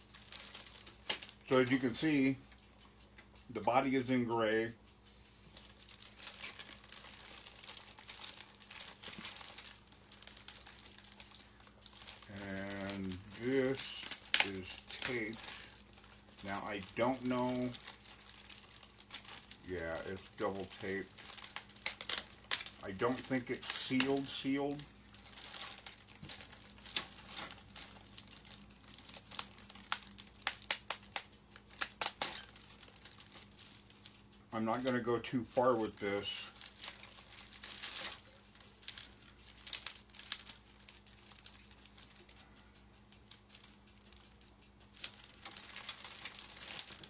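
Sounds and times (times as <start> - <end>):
plastic bags crinkling: 0.0 - 4.8, 5.4 - 47.0.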